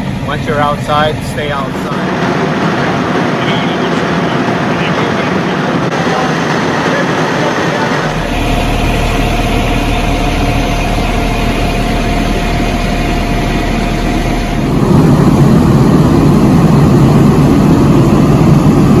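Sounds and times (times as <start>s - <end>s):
heavy vehicle engine idling: 0.0s - 19.0s.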